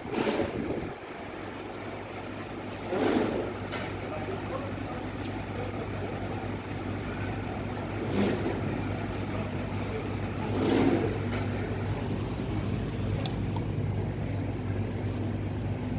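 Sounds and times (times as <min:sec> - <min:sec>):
wall fan humming: 0:00.0 - 0:15.9.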